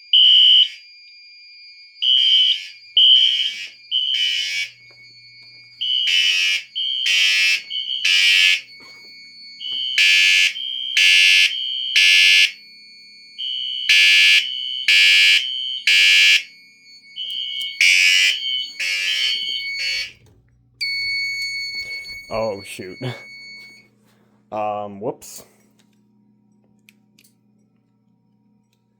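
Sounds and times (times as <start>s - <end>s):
fire alarm horn blasts: 0.0s - 23.9s.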